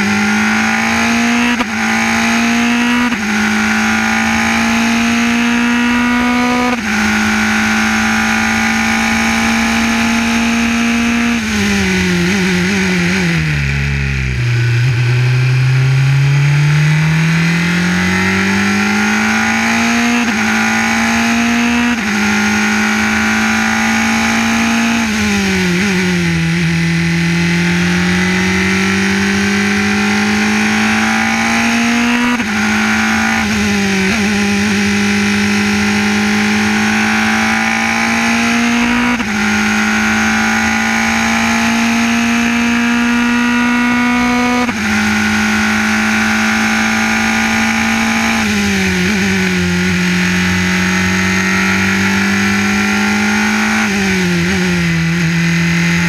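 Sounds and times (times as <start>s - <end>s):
racing car engine shifting gears: 0.0s - 56.0s.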